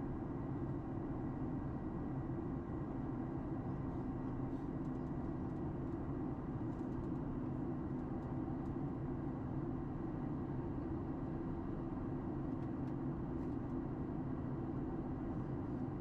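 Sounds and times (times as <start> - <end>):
airliner cabin engine hum: 0.0 - 16.0.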